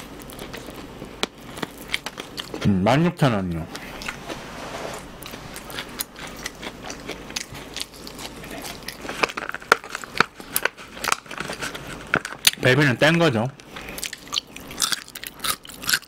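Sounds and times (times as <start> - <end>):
crunching and chewing crispy food: 0.0 - 4.4, 5.1 - 16.0.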